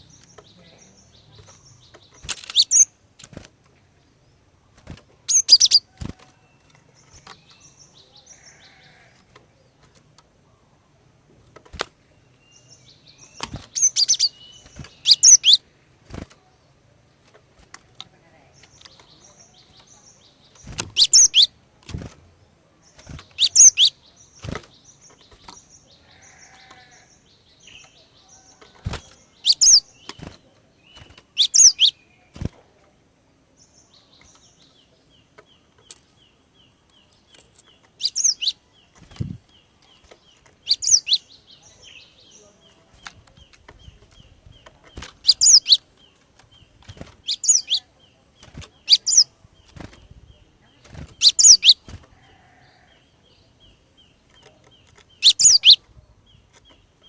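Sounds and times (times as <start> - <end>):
faint bird chips and ticking: 0.0 - 3.4, 5.2 - 10.3, 12.4 - 16.4, 17.7 - 21.6, 22.9 - 32.5, 33.8 - 50.0, 50.8 - 53.0, 54.0 - 57.0.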